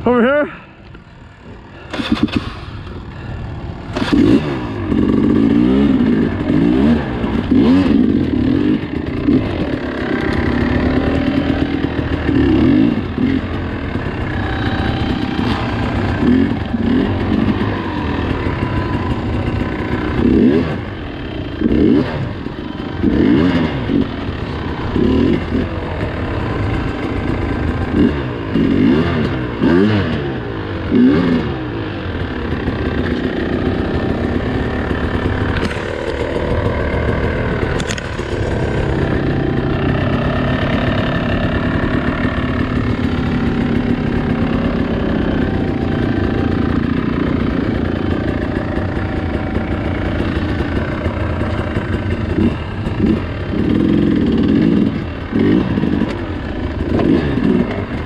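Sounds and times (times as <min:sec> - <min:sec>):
dirt bike engine revving: 0:01.2 - 0:58.0.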